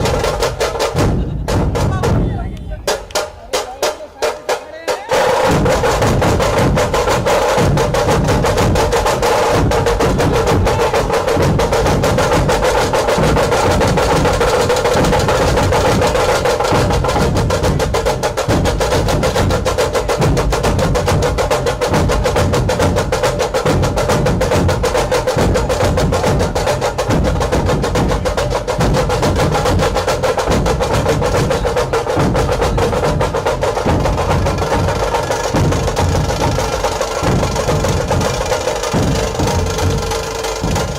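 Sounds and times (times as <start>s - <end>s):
fast percussion music: 0.0s - 40.9s.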